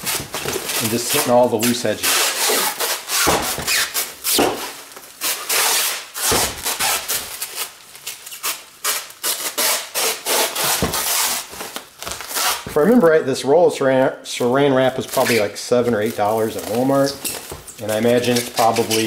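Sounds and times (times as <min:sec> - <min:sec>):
stretch wrap crackling: 0:00.0 - 0:19.0.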